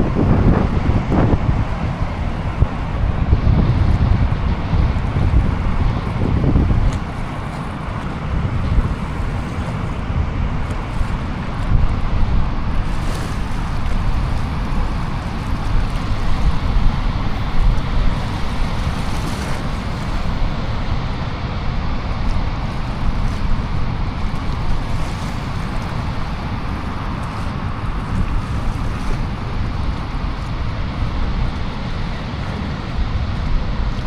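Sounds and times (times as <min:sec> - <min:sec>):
water rushing through spillway: 0:00.0 - 0:34.0
wind buffeting microphone: 0:00.0 - 0:34.0.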